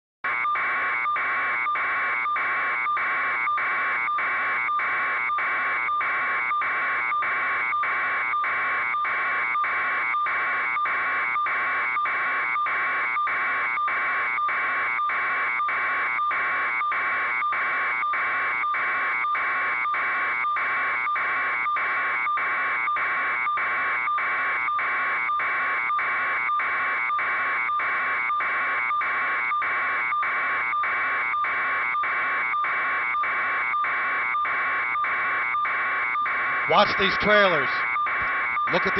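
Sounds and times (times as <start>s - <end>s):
electronic alarm buzzing: 0.3s - 38.9s.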